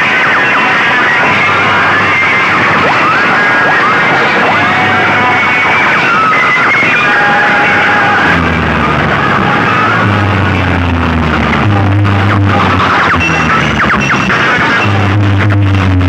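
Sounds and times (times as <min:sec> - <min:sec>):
warbling siren-like electronic tones: 0:01.2 - 0:11.0, 0:11.6 - 0:15.4
deep bass notes: 0:01.2 - 0:16.0.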